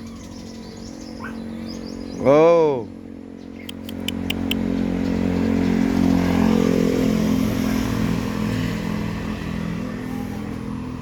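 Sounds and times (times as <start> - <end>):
vehicle engine passing by: 0.0 - 11.0.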